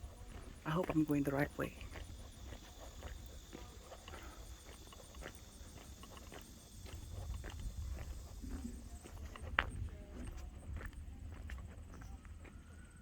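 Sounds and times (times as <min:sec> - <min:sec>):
footsteps crunching on trail: 0:00.0 - 0:12.7
insects calling with pulsing drone: 0:00.0 - 0:13.0.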